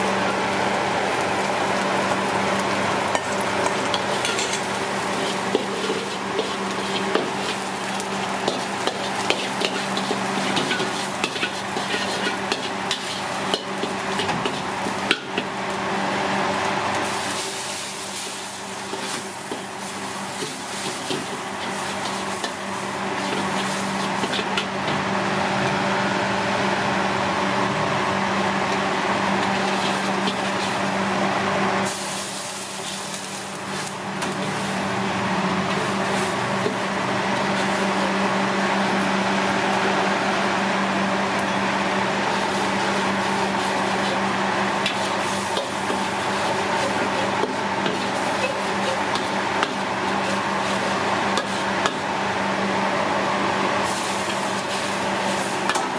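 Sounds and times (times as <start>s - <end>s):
food sizzling in a pan: 0.2s - 24.8s, 29.4s - 35.0s, 35.6s - 39.2s, 42.2s - 52.1s, 53.8s - 55.9s.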